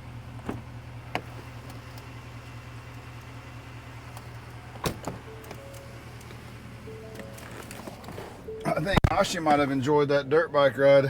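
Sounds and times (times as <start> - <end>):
vehicle humming: 0.0 - 10.9.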